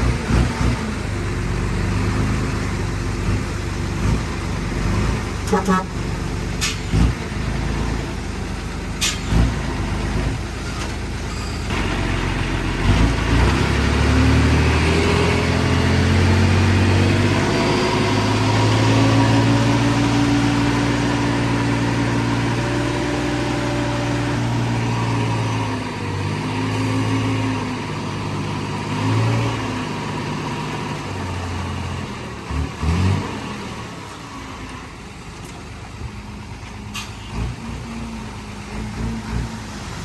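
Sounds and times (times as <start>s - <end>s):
heavy vehicle engine running: 0.0s - 40.0s.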